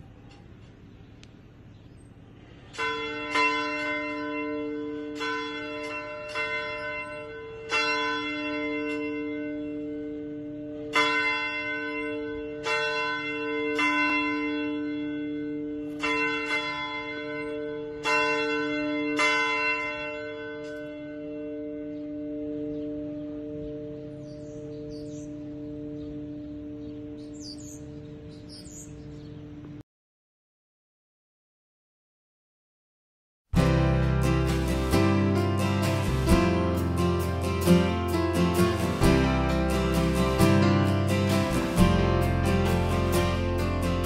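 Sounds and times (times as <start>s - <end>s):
bells ringing: 2.8s - 28.8s, 33.6s - 44.0s.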